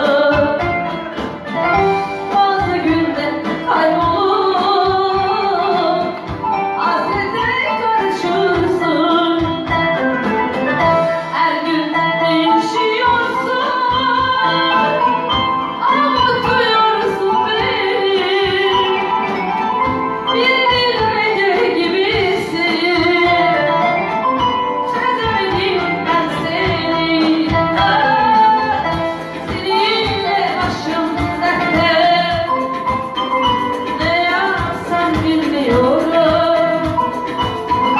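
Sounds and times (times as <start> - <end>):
woman singing: 0.0 - 10.2, 11.0 - 37.9
instrumental accompaniment: 0.0 - 37.9.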